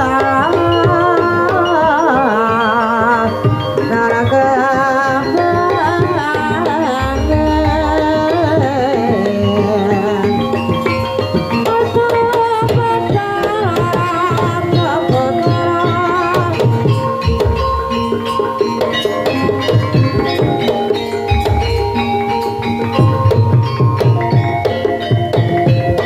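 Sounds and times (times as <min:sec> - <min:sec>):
gamelan music: 0:00.0 - 0:26.0
hand drum strokes: 0:04.6 - 0:26.0.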